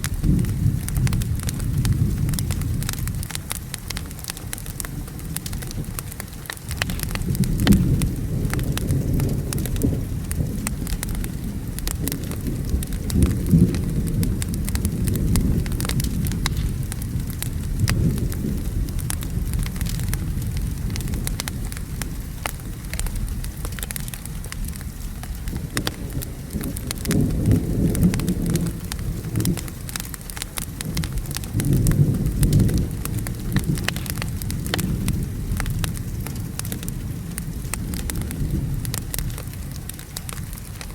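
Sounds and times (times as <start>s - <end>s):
low rolling thunder: 0.0s - 40.9s
steady rain: 0.0s - 40.9s
wood fire crackling: 0.0s - 40.9s.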